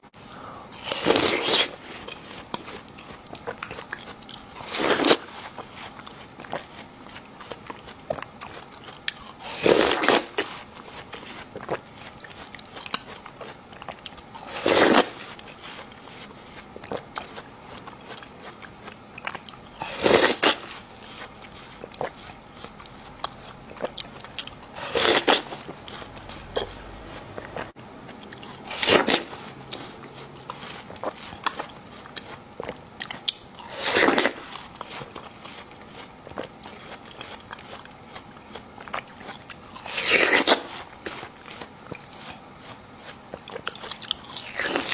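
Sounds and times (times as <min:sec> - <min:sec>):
crunchy bites into watermelon: 0:00.8 - 0:44.9
wet chewing clicks: 0:00.8 - 0:44.9.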